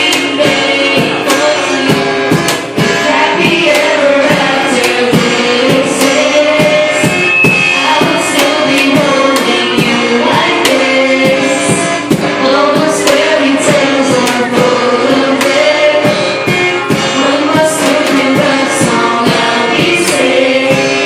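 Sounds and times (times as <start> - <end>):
cajon beat: 0.0 - 21.0
people singing: 0.0 - 21.0
strummed acoustic guitar: 0.0 - 21.0.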